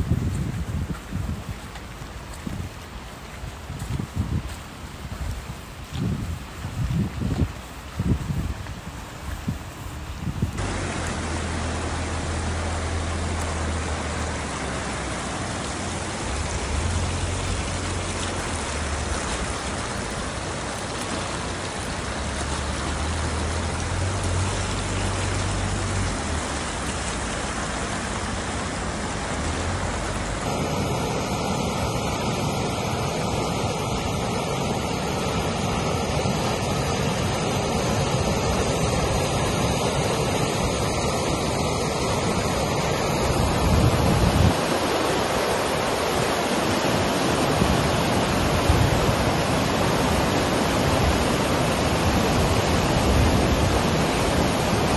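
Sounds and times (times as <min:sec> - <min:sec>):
floodwater rushing: 0:00.0 - 0:54.9
wind rumbling on microphone: 0:00.0 - 0:54.9
torrent pouring over a bank: 0:10.6 - 0:54.9.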